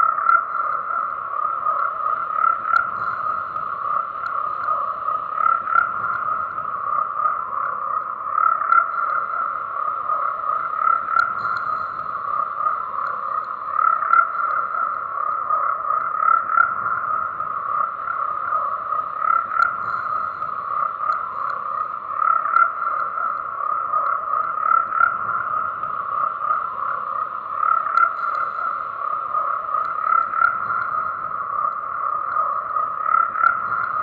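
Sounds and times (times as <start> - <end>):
frogs calling: 0.0 - 34.0.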